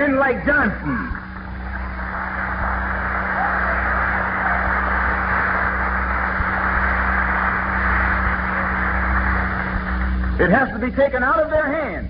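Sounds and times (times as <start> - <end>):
low mains hum: 0.0 - 12.0
audience applauding: 0.9 - 11.5.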